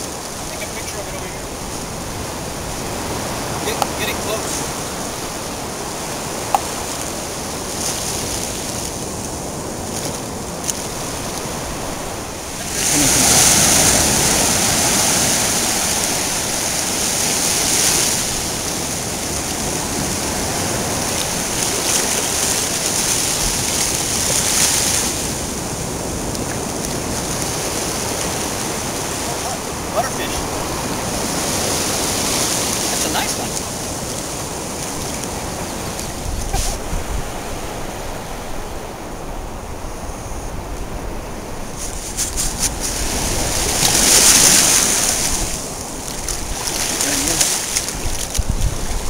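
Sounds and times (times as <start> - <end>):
surf washing over sand: 0.0 - 49.0.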